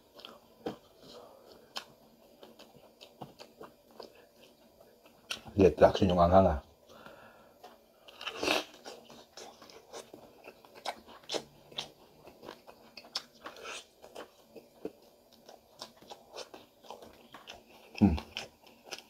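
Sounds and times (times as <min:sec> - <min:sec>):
crunching and chewing: 0:00.0 - 0:05.6, 0:06.9 - 0:19.0.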